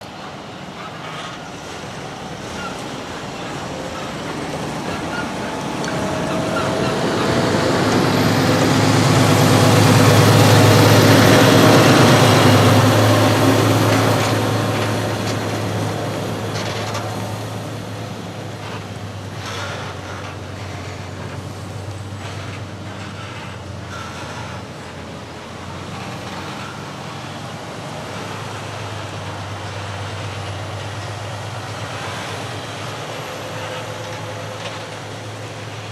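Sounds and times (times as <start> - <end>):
diesel farm vehicle driving past: 0.0 - 35.9.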